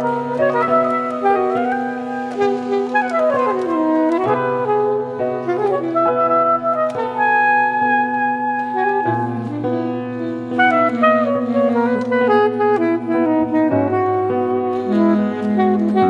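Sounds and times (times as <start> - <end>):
saxophone-like held notes: 0.0 - 16.0.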